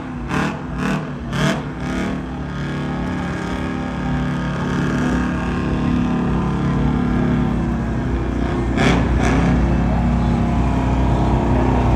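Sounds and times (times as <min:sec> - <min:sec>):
truck engine running: 0:00.0 - 0:11.9.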